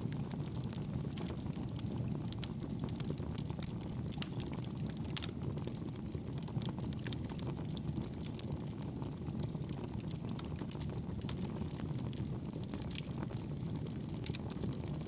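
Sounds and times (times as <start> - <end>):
fire crackling and popping: 0.0 - 15.0
low rumble of burning: 0.0 - 15.0.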